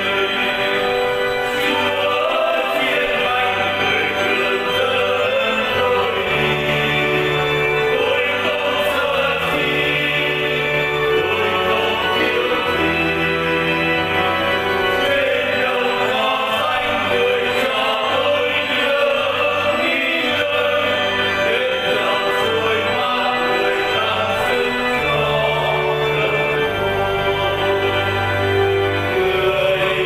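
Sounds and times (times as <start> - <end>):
choir singing a hymn: 0.0 - 30.0
instrumental accompaniment: 0.0 - 30.0.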